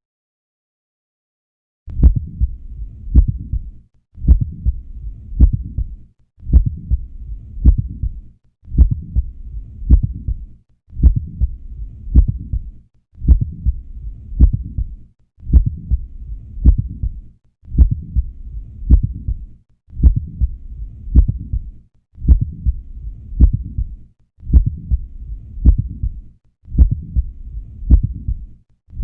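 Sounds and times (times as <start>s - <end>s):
heart valve clicks: 1.9s - 19.4s, 20.0s - 28.4s
soft heart rumble: 1.9s - 29.0s.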